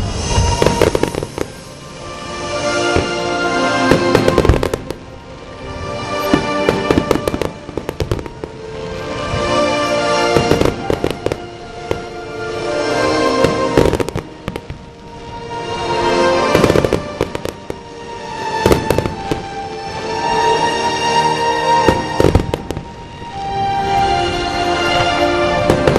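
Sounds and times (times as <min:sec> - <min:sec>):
fireworks bursting and crackling: 0:00.0 - 0:25.9
music with sustained tones: 0:00.0 - 0:25.9.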